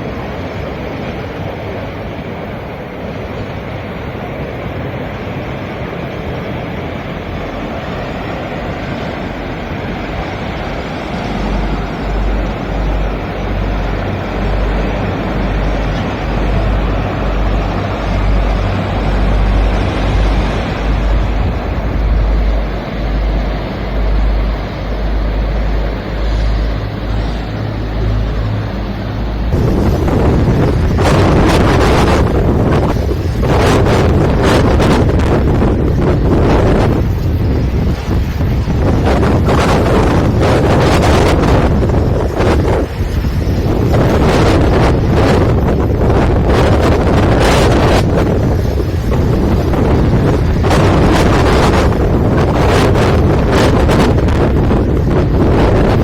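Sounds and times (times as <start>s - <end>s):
waves washing against rocks: 0.0s - 56.0s
wind buffeting microphone: 0.0s - 56.0s.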